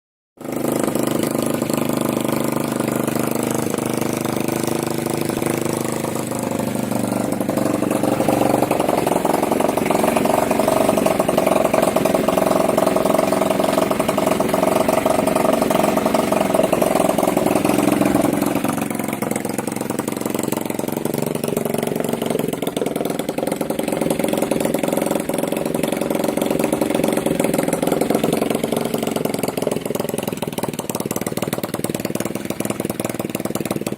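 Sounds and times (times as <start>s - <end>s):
moped engine running: 0.4s - 33.9s.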